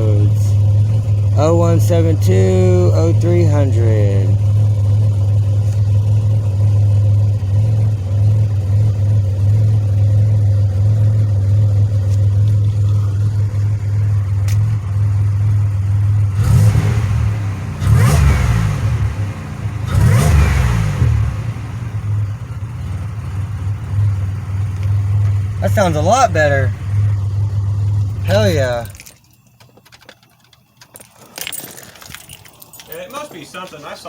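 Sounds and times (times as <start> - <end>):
engine revving: 0.0 - 29.0
car engine idling: 0.0 - 34.0.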